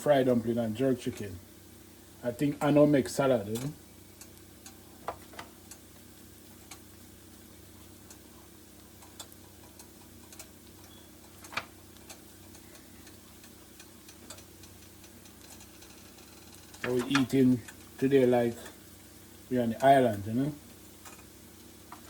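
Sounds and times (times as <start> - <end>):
food frying in hot oil: 0.2 - 22.0.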